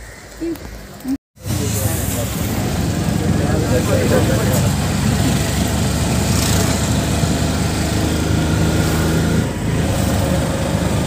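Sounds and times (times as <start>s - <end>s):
car engine rumble from inside: 1.4s - 11.0s.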